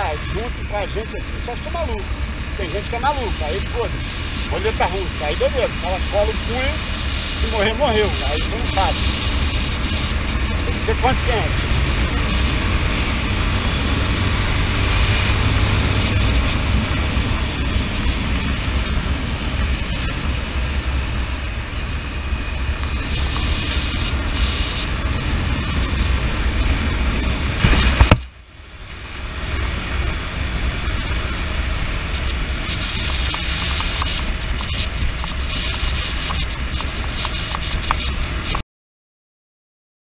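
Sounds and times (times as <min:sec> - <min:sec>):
motorcycle engine rumble: 0:00.0 - 0:38.6
wind noise: 0:00.0 - 0:38.6.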